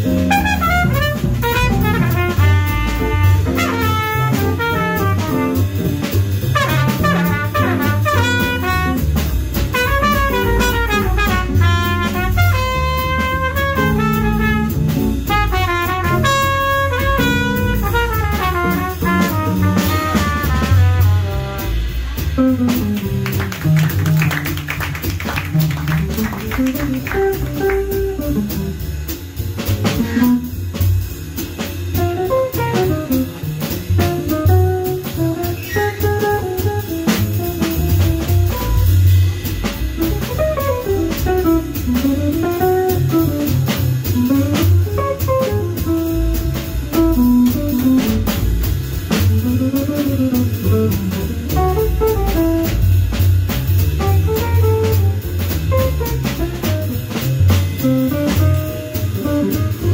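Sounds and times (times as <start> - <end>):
jazz electric guitar solo: 0.0 - 28.9, 29.6 - 30.7, 31.9 - 59.9
double bass: 0.0 - 59.9
drum kit with cymbals: 0.0 - 59.9.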